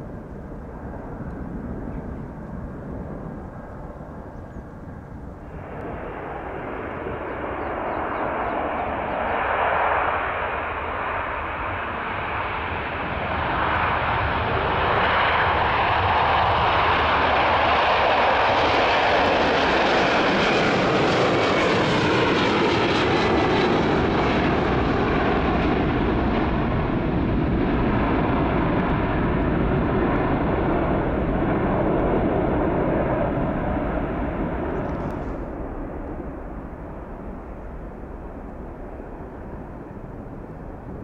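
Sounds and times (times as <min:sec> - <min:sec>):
jet engines roaring at takeoff: 0:00.0 - 0:41.0.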